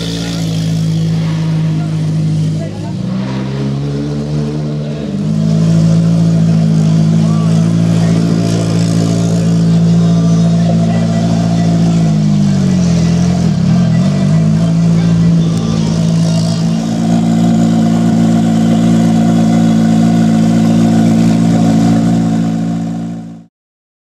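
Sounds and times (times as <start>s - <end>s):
car engine idling loudly: 0.0s - 23.5s.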